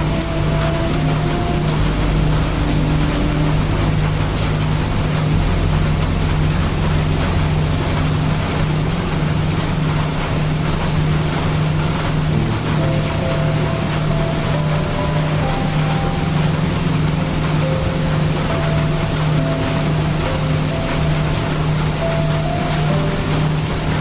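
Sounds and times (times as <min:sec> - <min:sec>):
deep low rumble: 0:00.0 - 0:23.9
heavy rain: 0:00.0 - 0:24.0.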